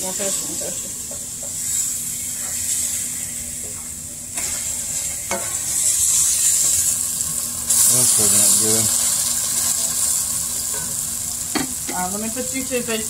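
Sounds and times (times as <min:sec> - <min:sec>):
steaks sizzling in a pan: 0:00.0 - 0:13.0.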